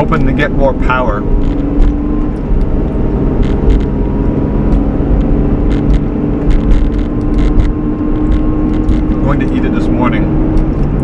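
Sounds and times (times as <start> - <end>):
constant hum: 0.0 - 11.0
vehicle engine and road rumble: 0.0 - 11.0.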